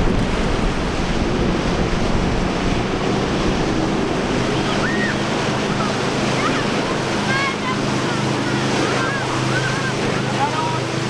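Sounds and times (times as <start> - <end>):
boat engine running: 0.0 - 11.0
rushing spray and wake: 0.0 - 11.0.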